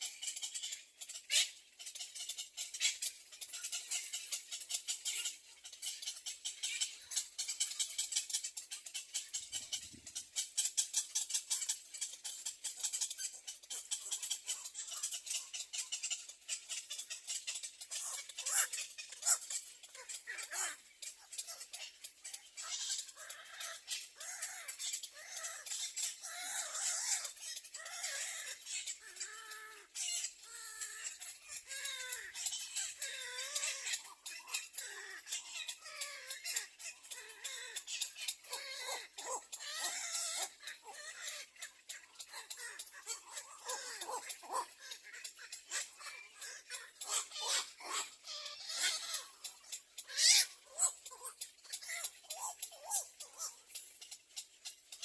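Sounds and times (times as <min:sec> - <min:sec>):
baby birds cheeping: 0:00.0 - 0:55.0.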